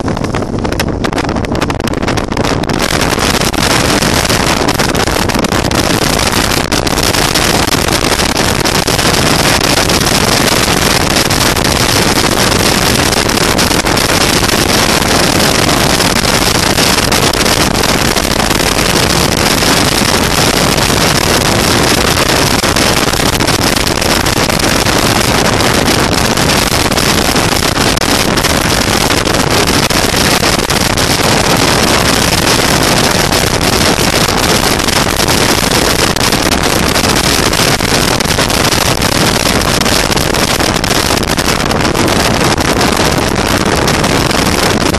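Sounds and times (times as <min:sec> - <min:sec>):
boat motor: 0:00.0 - 0:44.9
hull on water: 0:00.0 - 0:44.9
wind on microphone: 0:00.0 - 0:44.9.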